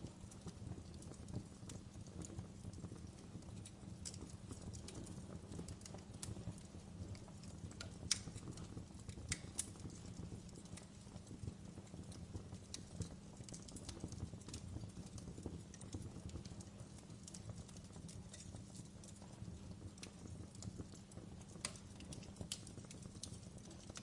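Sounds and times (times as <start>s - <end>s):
fire popping and snapping: 0.0s - 24.0s
low rumble of flames: 0.0s - 24.0s.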